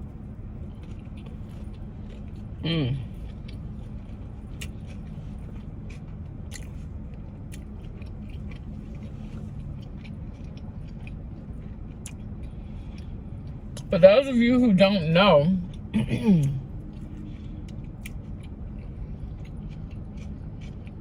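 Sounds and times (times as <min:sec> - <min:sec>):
person chewing: 0:00.0 - 0:13.9, 0:15.6 - 0:21.0
low hum: 0:00.0 - 0:21.0.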